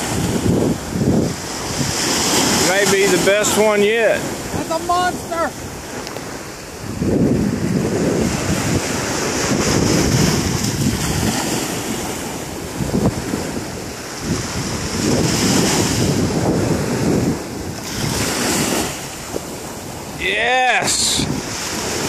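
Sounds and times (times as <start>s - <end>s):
surf waves washing up beach: 0.0s - 22.0s
wind noise on microphone: 0.0s - 22.0s.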